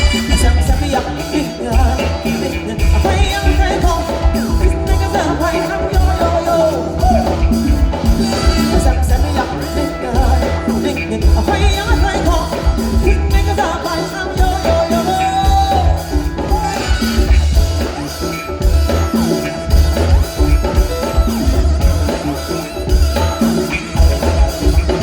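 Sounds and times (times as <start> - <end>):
live band playing funk: 0.0 - 25.0
person singing: 0.0 - 25.0.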